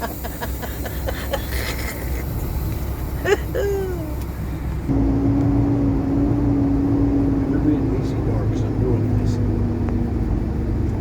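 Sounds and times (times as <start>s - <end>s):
steady hum: 0.0s - 9.3s
truck engine idling: 0.0s - 11.0s.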